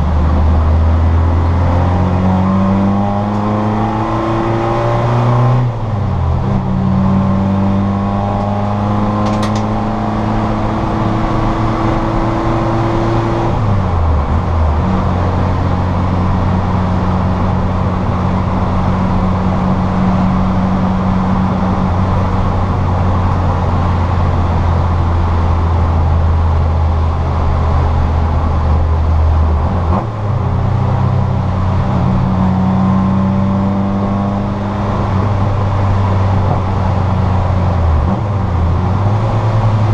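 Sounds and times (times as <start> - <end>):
car engine from inside: 0.0 - 39.9.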